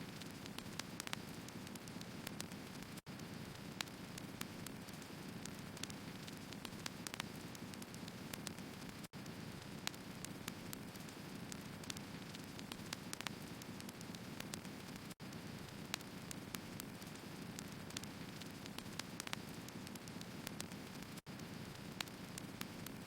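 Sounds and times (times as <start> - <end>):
firewood crackling and popping: 0.0 - 23.0
flame hiss and rumble: 0.0 - 23.0.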